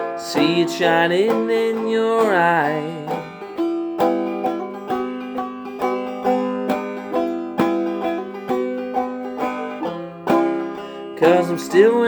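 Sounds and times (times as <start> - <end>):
banjo playing: 0.0 - 12.0.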